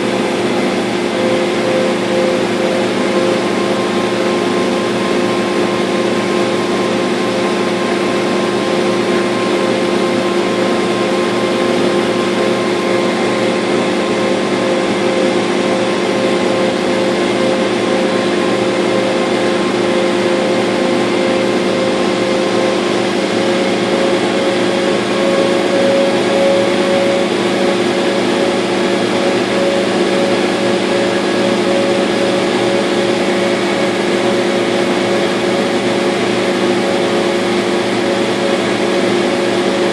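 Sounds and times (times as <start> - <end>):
humming tones: 0.0 - 34.2
laser cutter whirring: 0.0 - 39.9.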